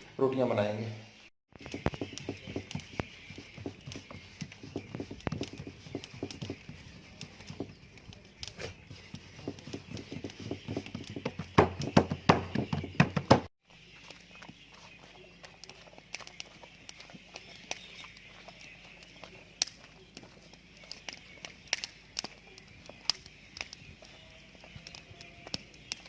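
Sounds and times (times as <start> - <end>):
rapid irregular taps and knocks: 1.5 - 13.5, 14.1 - 26.0.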